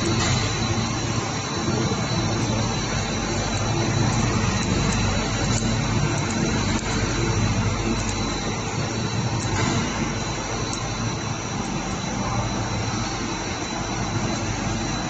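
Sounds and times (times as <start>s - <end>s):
machine drone with low hum: 0.0s - 15.0s.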